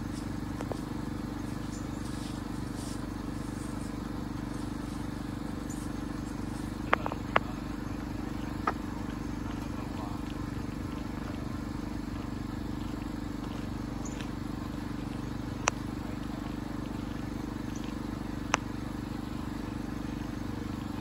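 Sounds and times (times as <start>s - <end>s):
small engine rumbling: 0.0s - 21.0s.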